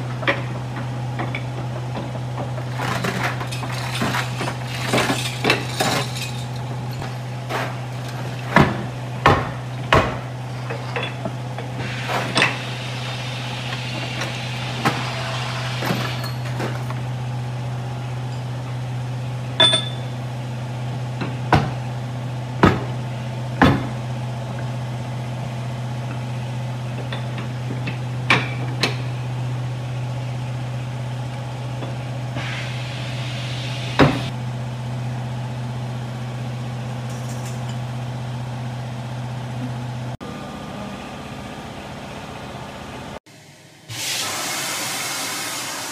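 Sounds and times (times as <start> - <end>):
low machine hum: 0.0 - 43.7.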